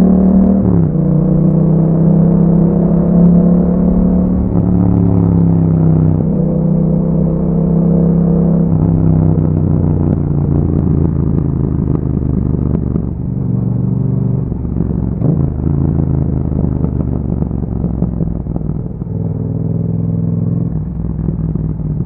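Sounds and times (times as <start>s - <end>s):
motorcycle engine while riding: 0.0s - 22.0s.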